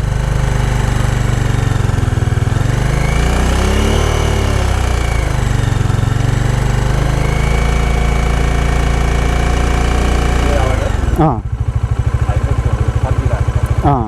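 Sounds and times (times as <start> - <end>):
buzzing vibration: 0.0 - 14.0
motorcycle engine revving: 0.0 - 14.0.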